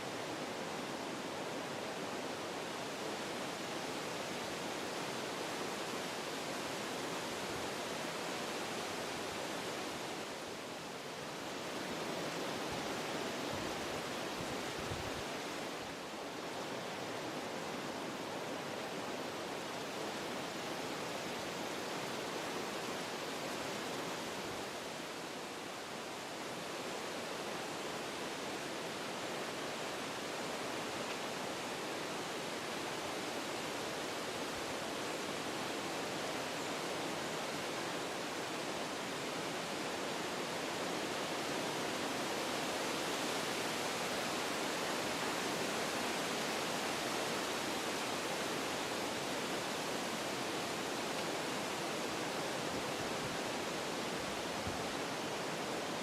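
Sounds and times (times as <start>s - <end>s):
wind through forest trees: 0.0s - 56.0s.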